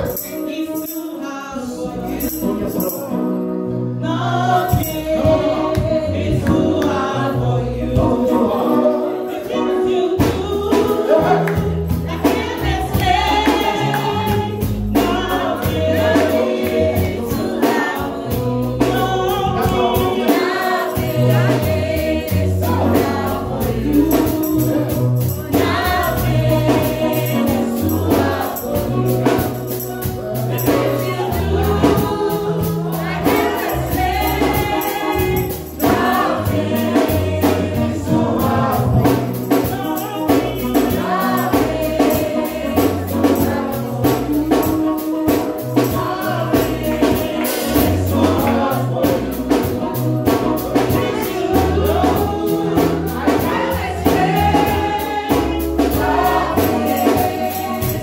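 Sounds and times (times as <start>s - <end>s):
group of voices singing: 0.0s - 58.0s
steady percussion beat: 4.4s - 7.0s, 10.0s - 58.0s
bass line: 9.9s - 58.0s.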